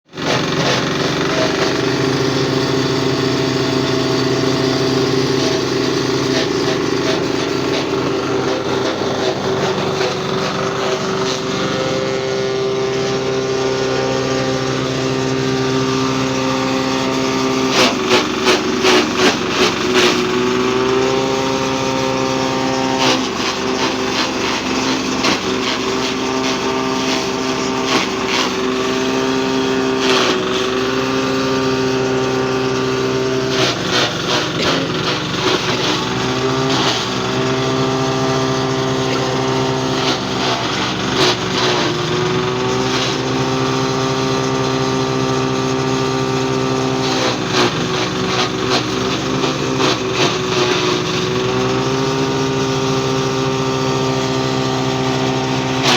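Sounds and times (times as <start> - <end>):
chaff cutter clattering: 0.2 - 55.9
diesel engine running: 0.2 - 55.9.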